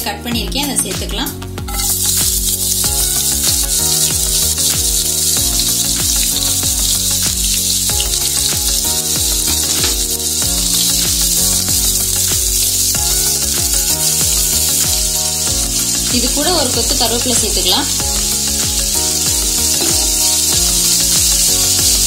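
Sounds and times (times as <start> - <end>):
background music: 0.0 - 22.0
onions sizzling in hot oil: 1.6 - 22.0.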